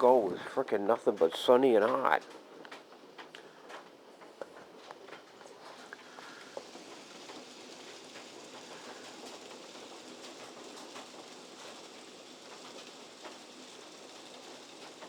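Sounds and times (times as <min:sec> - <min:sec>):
hail and rain hissing: 0:00.0 - 0:15.0
hailstones ticking: 0:00.0 - 0:15.0.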